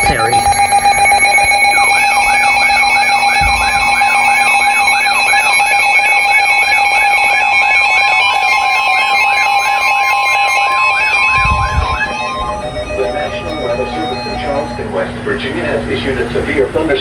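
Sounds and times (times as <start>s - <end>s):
warbling alarm sweeps: 0.0s - 15.3s
harsh two-tone alarm: 0.0s - 17.0s.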